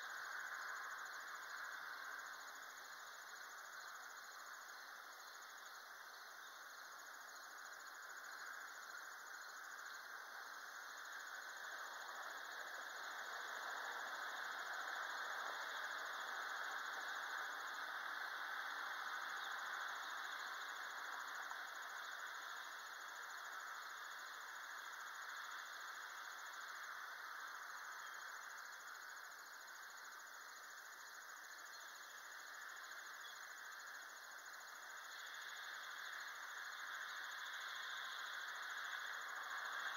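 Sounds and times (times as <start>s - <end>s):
outdoor ambience hiss: 0.0s - 39.9s.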